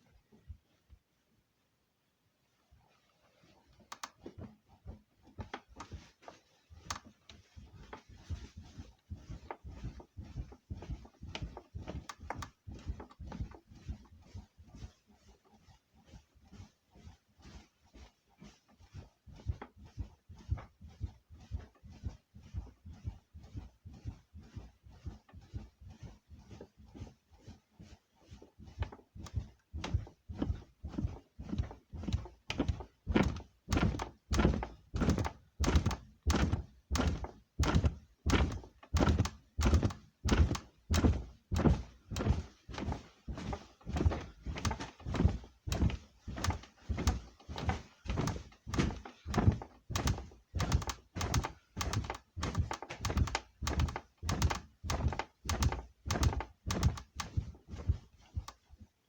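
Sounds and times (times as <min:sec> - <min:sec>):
bed creaking and knocking: 0:03.7 - 0:59.0.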